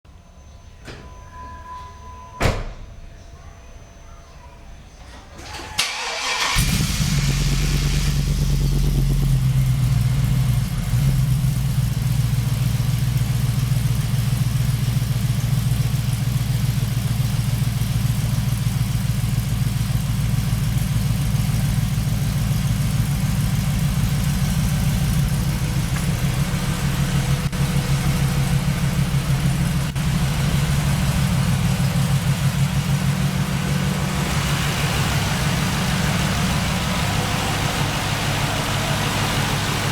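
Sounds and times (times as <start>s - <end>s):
car engine idling: 5.4s - 39.9s.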